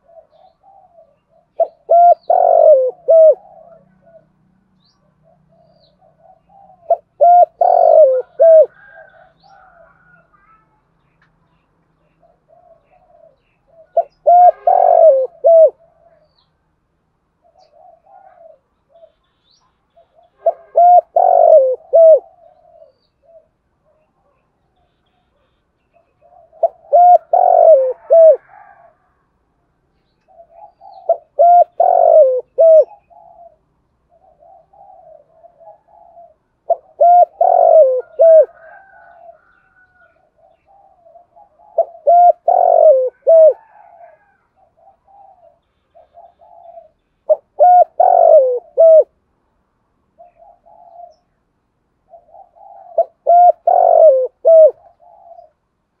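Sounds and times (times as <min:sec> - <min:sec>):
dove cooing: 0:00.0 - 0:10.6, 0:12.0 - 0:16.4, 0:17.4 - 0:19.2, 0:20.0 - 0:24.4, 0:25.0 - 0:29.1, 0:30.2 - 0:49.2, 0:50.2 - 0:51.4, 0:52.0 - 0:55.6
soft murmuring coos: 0:00.0 - 0:11.0, 0:12.0 - 0:16.4, 0:17.4 - 0:19.3, 0:19.9 - 0:29.2, 0:30.2 - 0:49.1, 0:50.2 - 0:51.3, 0:52.1 - 0:55.6.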